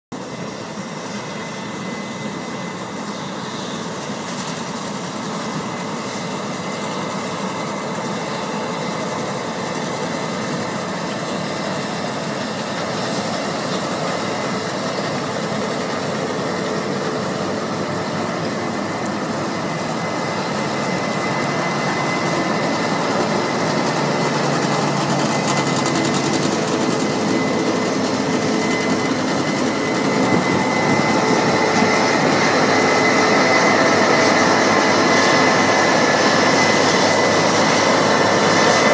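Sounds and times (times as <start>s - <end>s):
combine harvester and tractor engines: 0.1s - 38.9s
thin high whine: 6.0s - 38.9s.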